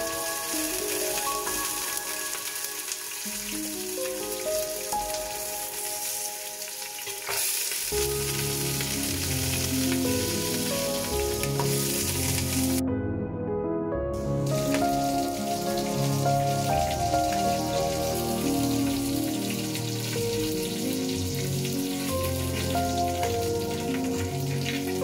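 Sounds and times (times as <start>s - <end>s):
bones sizzling in hot oil: 0.0s - 12.8s, 14.2s - 25.0s
background music: 0.0s - 25.0s.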